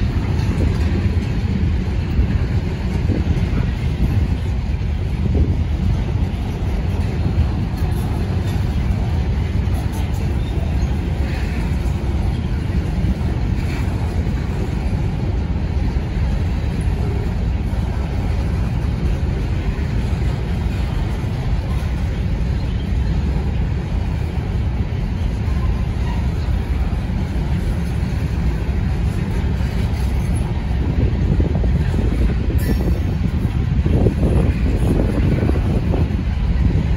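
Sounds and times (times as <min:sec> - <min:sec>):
steel train wheels rumbling on rails: 0:00.0 - 0:36.9.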